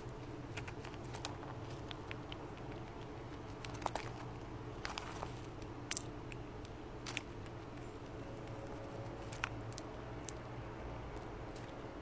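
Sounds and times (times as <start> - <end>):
squirrel crunching seeds: 0.0 - 12.0
steady low hum: 0.0 - 12.0.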